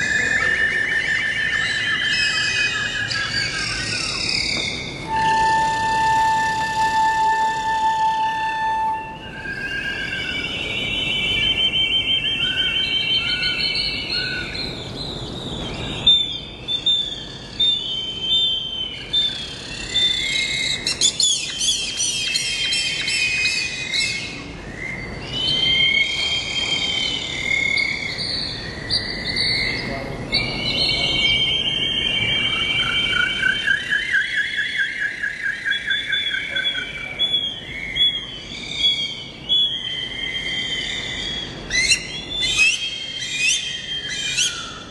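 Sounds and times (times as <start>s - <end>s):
birds chirping and whistling: 0.0s - 44.9s
birds trilling: 0.0s - 44.9s.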